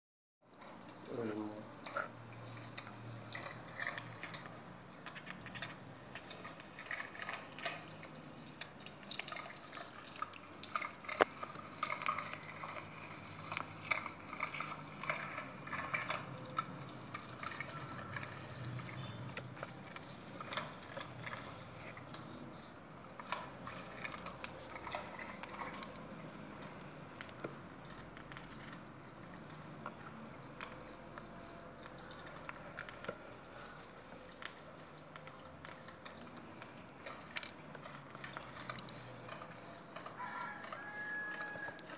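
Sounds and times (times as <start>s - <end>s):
slime squelching and crackling: 0.5s - 41.9s.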